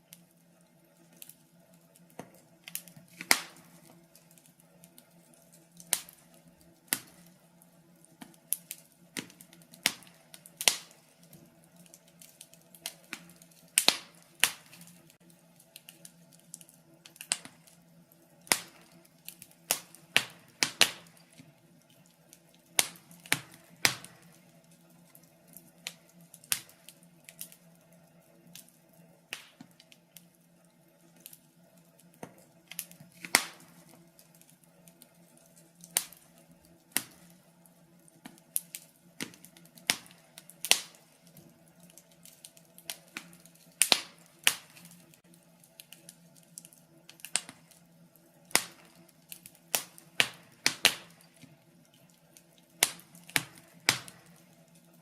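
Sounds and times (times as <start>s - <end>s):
faint steady hum: 0.0s - 55.0s
wood fire crackling: 0.0s - 55.0s.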